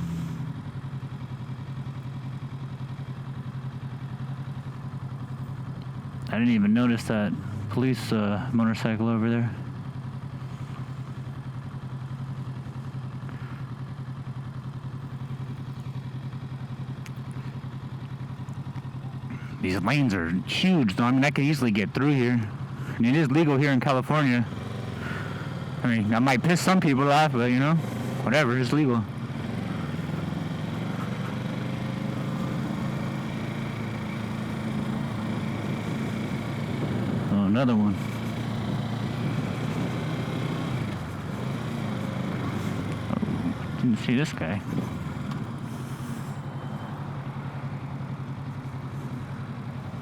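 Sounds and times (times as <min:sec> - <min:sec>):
motorcycle engine idling: 0:00.0 - 0:50.0.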